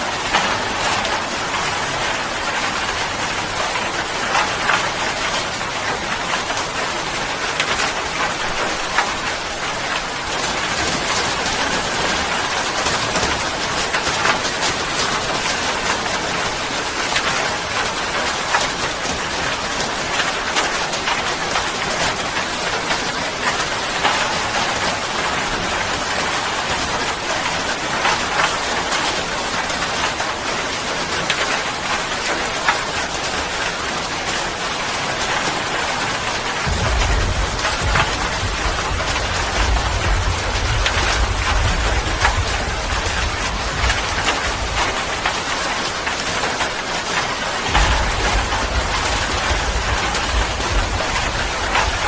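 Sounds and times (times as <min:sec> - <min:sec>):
heavy rain falling: 0:00.0 - 0:52.0
raindrops tapping a surface: 0:00.0 - 0:52.0.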